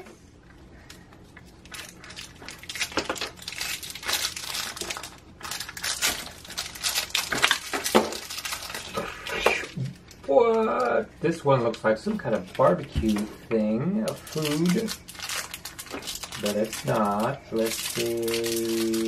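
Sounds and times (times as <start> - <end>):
plastic wrapper crackling: 0.8 - 13.4, 14.0 - 19.0.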